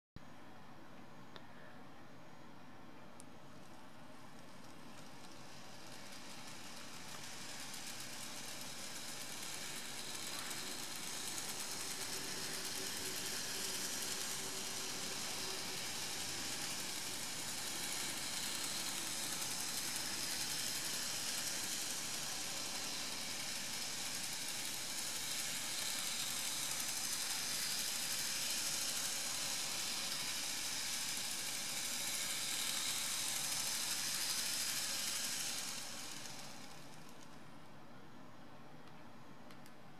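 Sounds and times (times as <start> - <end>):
model train motor whirring: 3.6 - 37.5.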